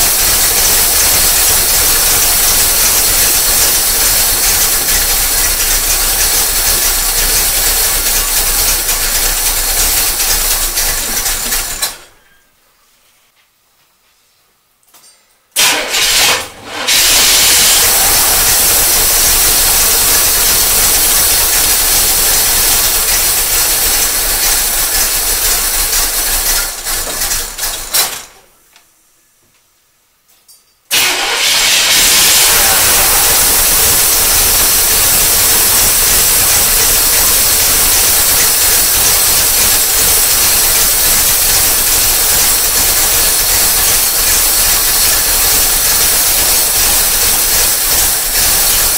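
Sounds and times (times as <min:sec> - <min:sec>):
car engine starting and running: 0:00.0 - 0:12.1, 0:15.6 - 0:28.4, 0:30.9 - 0:48.9.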